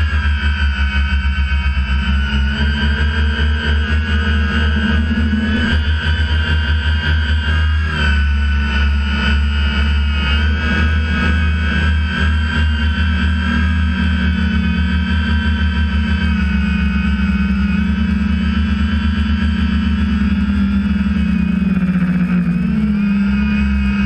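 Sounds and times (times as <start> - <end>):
drone propellers whining: 0.0 - 24.0
low fluttering rumble: 0.0 - 24.0.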